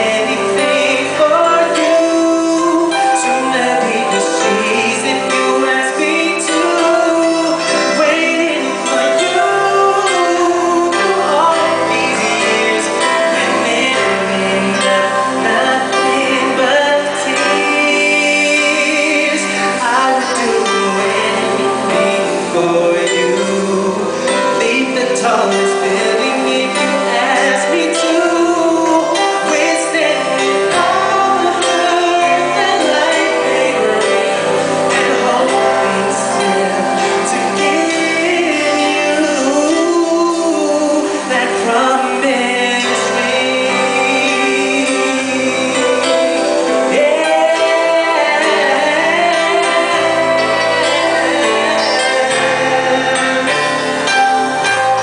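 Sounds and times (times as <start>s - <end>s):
live band playing soul ballad: 0.0s - 55.0s
man singing: 0.0s - 55.0s.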